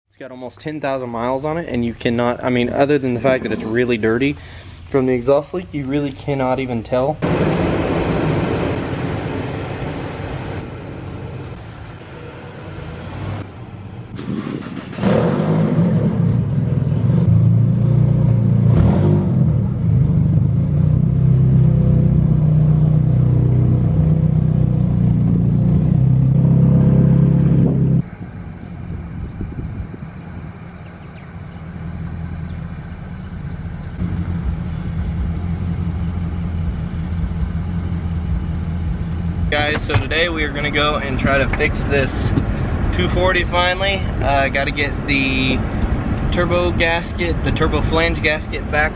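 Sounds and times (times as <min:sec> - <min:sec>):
car engine with exhaust leak: 0:01.0 - 0:48.9.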